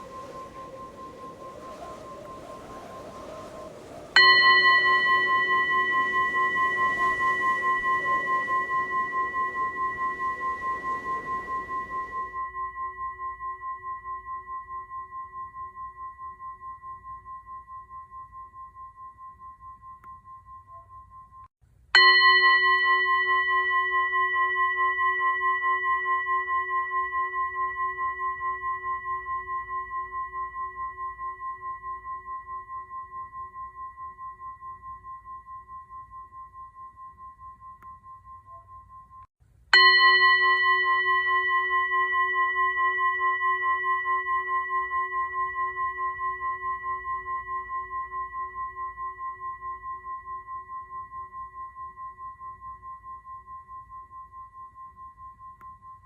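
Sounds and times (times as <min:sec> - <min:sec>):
pulsing bell-like tone: 0:00.0 - 0:56.0
singing bowl ringing: 0:00.0 - 0:56.0.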